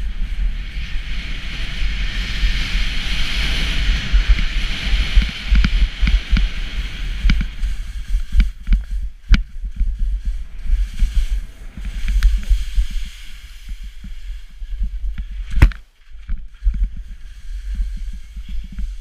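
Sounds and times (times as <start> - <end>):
skis scraping over snow: 0.0 - 19.0
wind buffeting microphone: 0.0 - 19.0.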